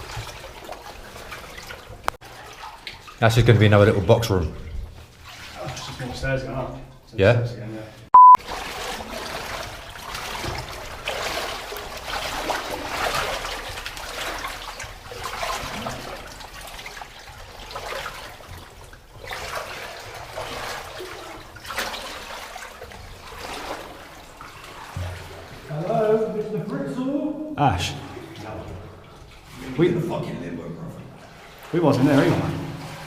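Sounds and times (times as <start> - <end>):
water sloshing from wading: 0.0 - 7.1, 8.4 - 33.0.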